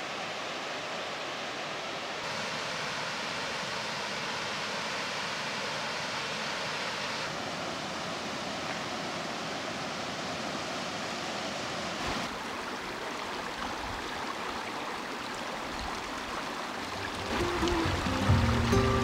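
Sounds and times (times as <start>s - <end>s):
stream water over rocks: 0.0s - 19.0s.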